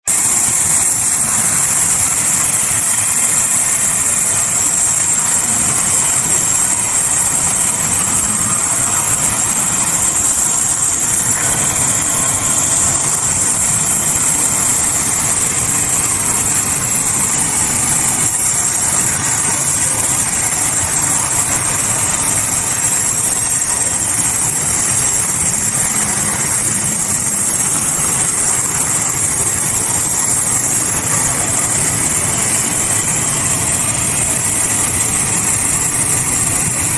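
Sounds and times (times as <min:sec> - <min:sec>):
sawmill machinery droning: 0:00.0 - 0:36.9.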